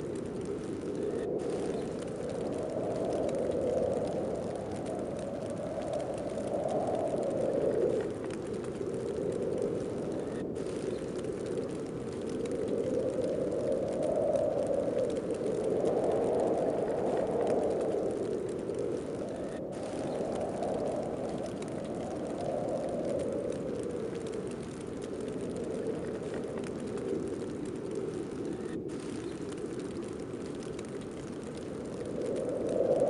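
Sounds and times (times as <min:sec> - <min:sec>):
snowstorm wind blowing: 0:00.0 - 0:33.0.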